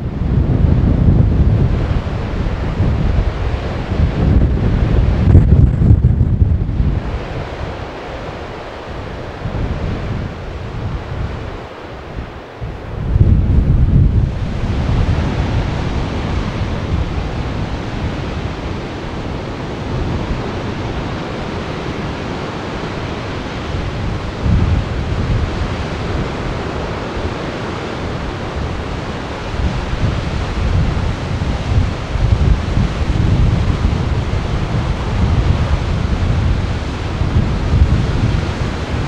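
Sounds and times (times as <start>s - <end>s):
sea surf breaking on rocks: 0.0s - 39.0s
wind buffeting microphone: 0.0s - 39.0s.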